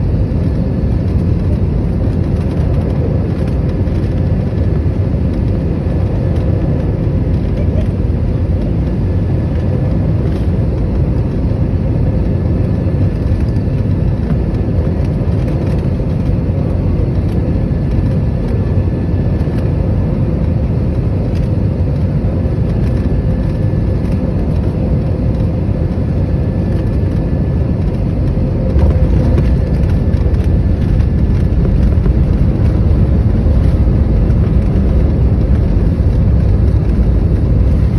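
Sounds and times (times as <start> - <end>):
low rumble of engines and airflow: 0.0 - 37.9.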